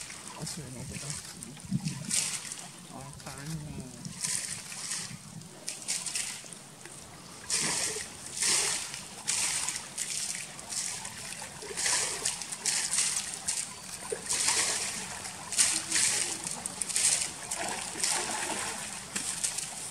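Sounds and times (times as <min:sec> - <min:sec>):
water splashing and sloshing: 0:00.0 - 0:19.9.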